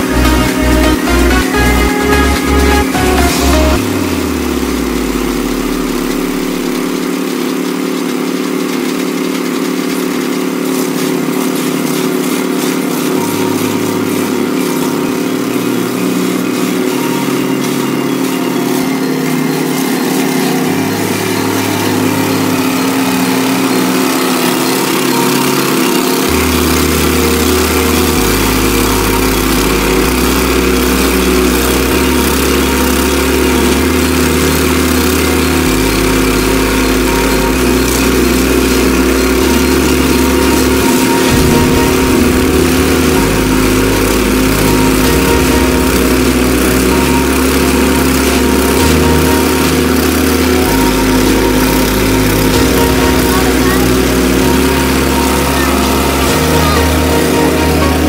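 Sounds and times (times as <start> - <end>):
low bass line music: 0.0 - 7.7, 9.9 - 58.0
digging machine engine running: 0.0 - 58.0.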